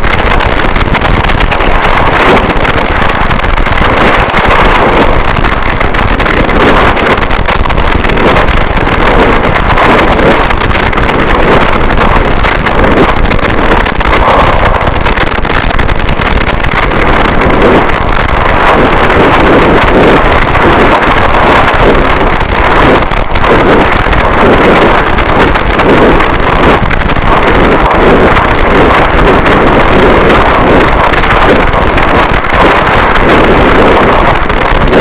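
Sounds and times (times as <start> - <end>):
distorted static noise: 0.0 - 35.0.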